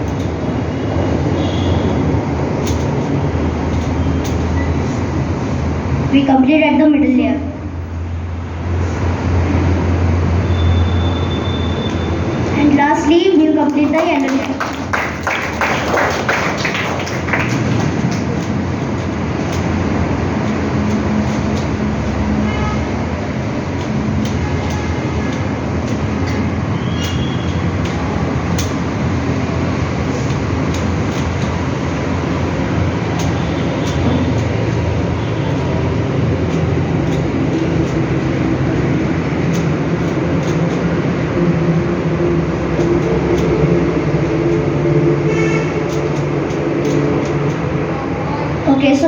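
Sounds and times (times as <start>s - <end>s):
loud rumbling background noise: 0.0s - 49.0s.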